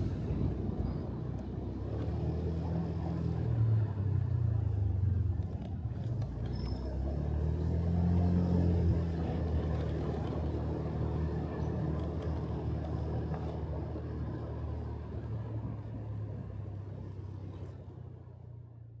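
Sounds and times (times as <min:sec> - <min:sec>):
road noise: 0:00.0 - 0:19.0
wind: 0:00.0 - 0:19.0.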